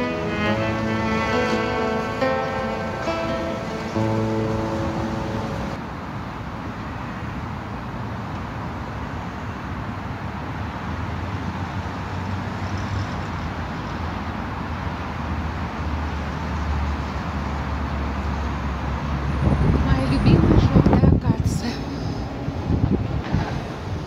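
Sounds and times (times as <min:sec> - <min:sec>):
passing cars: 0:00.0 - 0:24.0.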